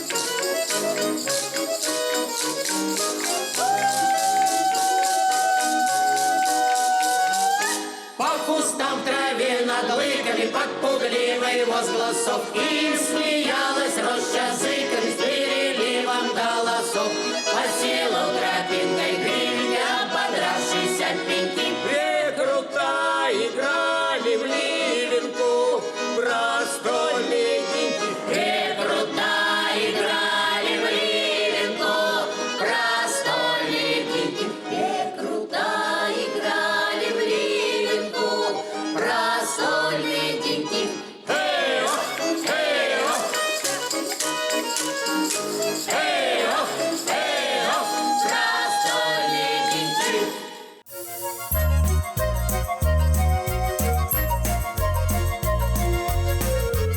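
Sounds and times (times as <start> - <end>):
accordion playing: 0.0 - 56.9
voices singing: 3.5 - 50.8.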